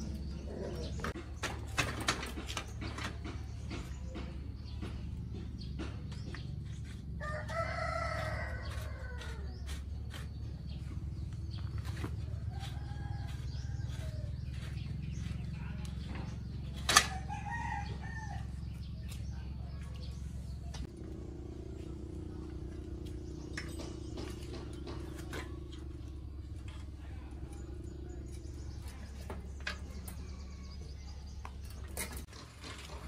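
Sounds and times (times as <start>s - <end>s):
steady low hum: 2.8s - 32.3s.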